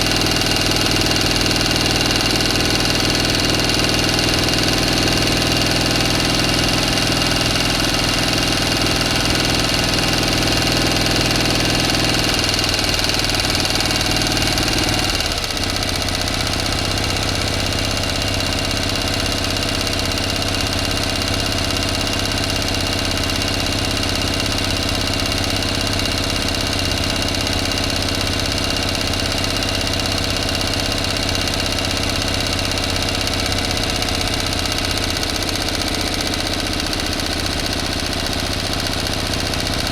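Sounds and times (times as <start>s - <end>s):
motor running: 0.0s - 39.9s.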